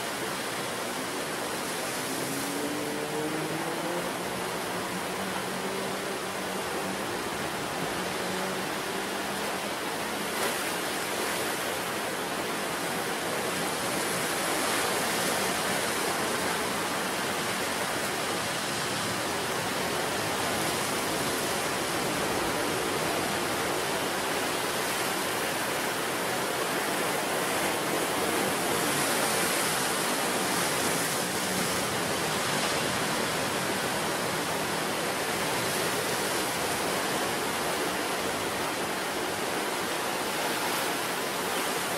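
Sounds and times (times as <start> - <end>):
sea surf breaking: 0.0 - 41.9.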